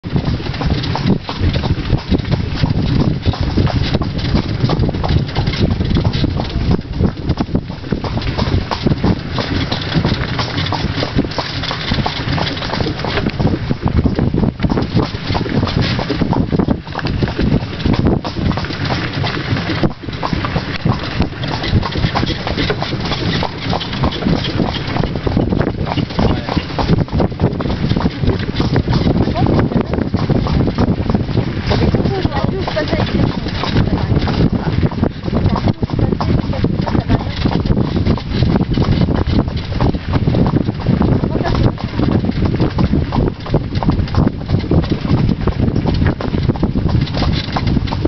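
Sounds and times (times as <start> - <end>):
carriage wheels rumbling and rattling: 0.0 - 48.0
horse hooves clopping: 0.0 - 48.0.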